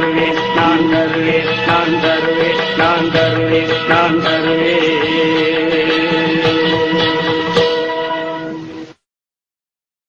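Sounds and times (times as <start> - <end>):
instrumental film-song music: 0.0 - 9.0.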